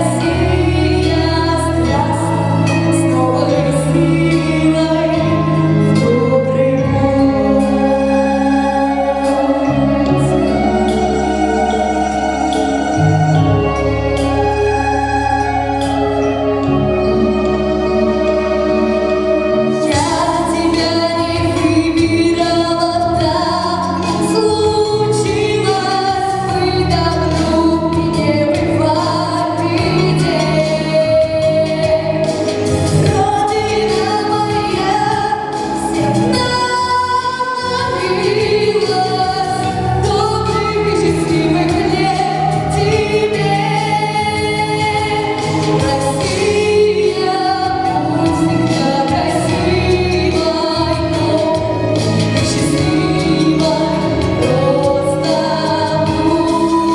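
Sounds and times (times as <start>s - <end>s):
instrumental backing: 0.0s - 56.9s.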